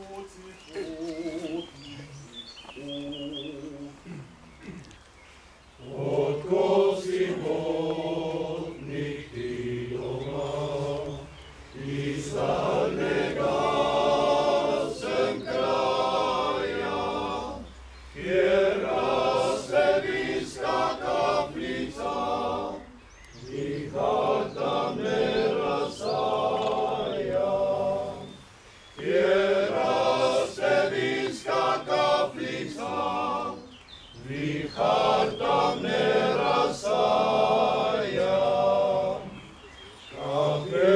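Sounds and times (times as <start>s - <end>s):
male choir singing a cappella: 0.0s - 4.8s, 5.8s - 40.9s.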